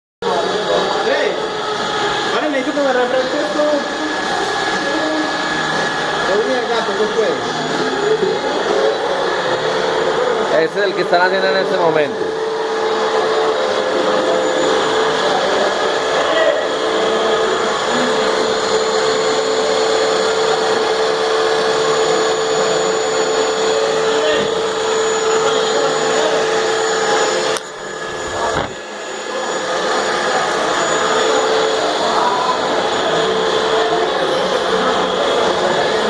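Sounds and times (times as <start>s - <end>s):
metal cutting noise: 0.2s - 36.0s.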